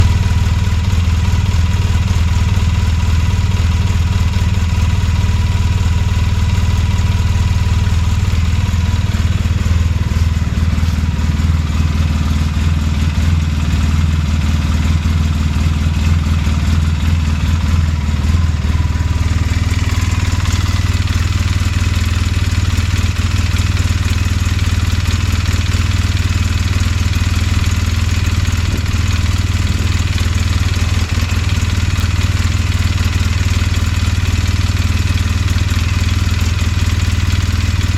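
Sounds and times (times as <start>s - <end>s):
atv engine idling: 0.0s - 37.9s
engine clanking and tapping: 0.0s - 37.9s.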